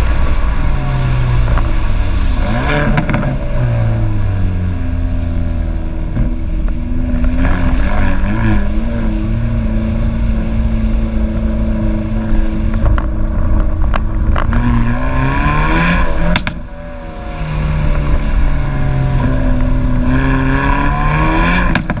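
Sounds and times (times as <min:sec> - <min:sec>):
car engine revving: 0:00.0 - 0:22.0
exhaust bangs: 0:00.0 - 0:22.0.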